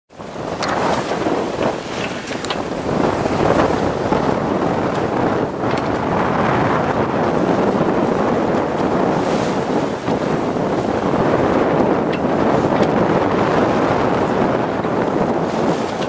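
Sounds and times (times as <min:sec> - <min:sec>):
waves rushing: 0:00.1 - 0:16.0
wind buffeting microphone: 0:00.1 - 0:16.0.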